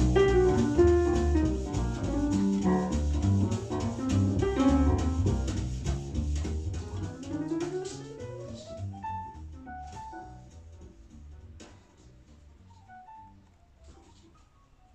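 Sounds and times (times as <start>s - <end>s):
jazz through speakers: 0.0s - 14.9s.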